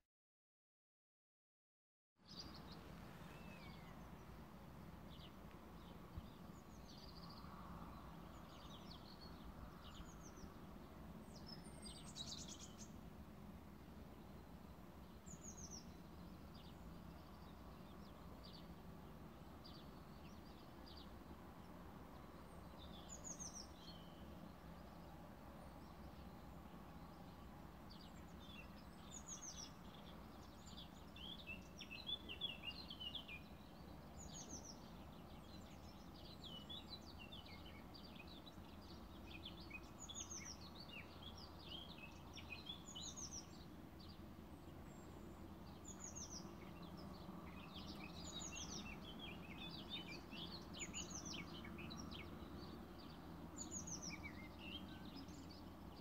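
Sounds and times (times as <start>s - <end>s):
birds chirping faintly: 2.2s - 56.0s.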